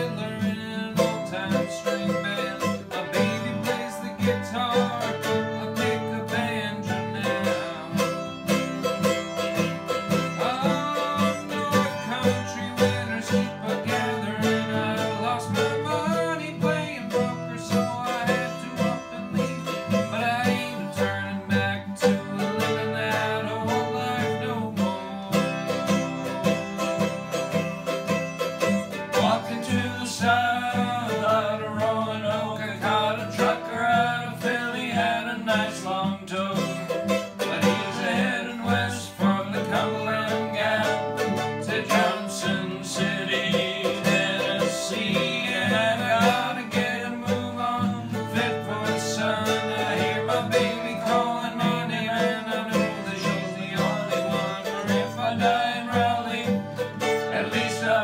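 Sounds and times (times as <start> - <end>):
acoustic guitar strumming chords: 0.0 - 58.0
mandolin picking a melody: 0.0 - 58.0.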